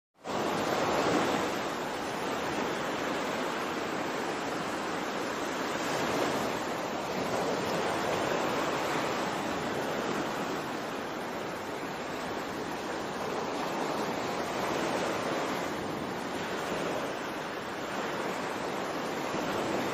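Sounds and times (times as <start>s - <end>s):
ocean waves washing: 0.2s - 19.9s.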